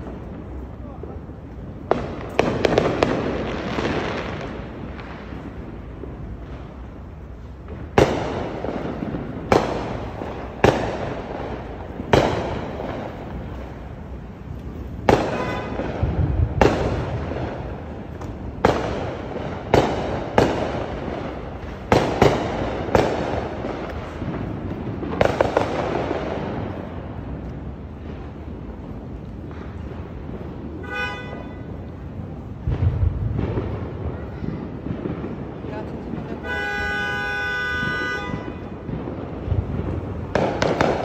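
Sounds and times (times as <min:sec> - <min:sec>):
fireworks exploding: 0:00.0 - 0:41.0.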